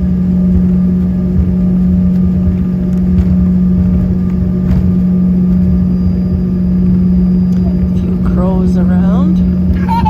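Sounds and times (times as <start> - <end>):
aircraft engines humming in cabin: 0.0 - 10.0.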